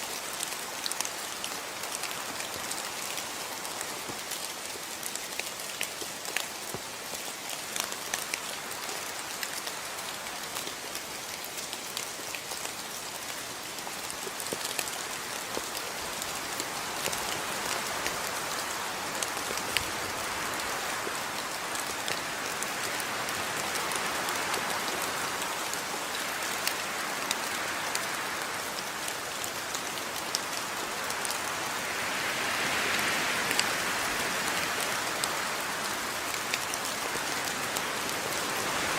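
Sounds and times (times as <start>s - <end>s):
rain falling: 0.0s - 38.9s
raindrops ticking on surfaces: 0.0s - 38.9s.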